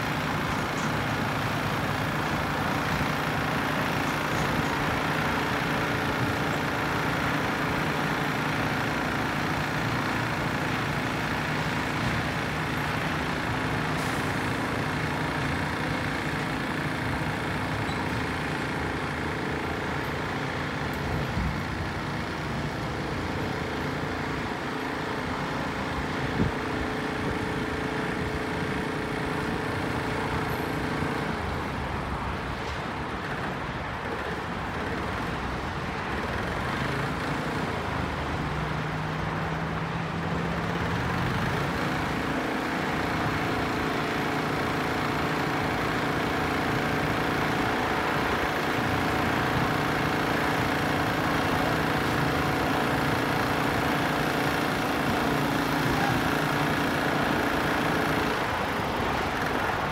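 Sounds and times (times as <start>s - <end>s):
highway traffic: 0.0s - 59.9s.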